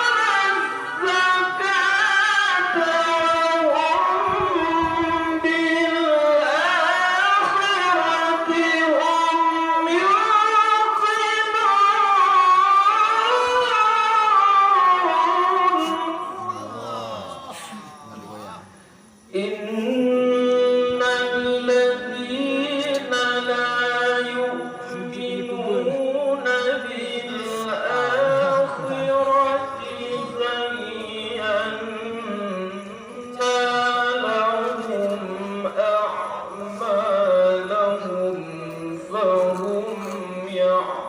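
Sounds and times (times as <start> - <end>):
person reciting melodically: 0.0 - 41.0.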